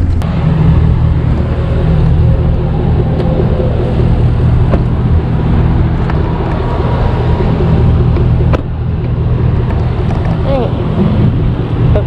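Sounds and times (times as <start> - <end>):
diesel engine running: 0.0 - 12.0
road noise: 0.0 - 12.0.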